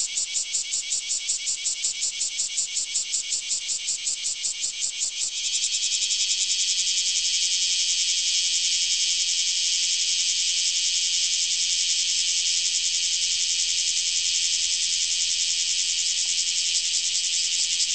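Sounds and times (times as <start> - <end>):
cicada buzzing: 0.0 - 17.9.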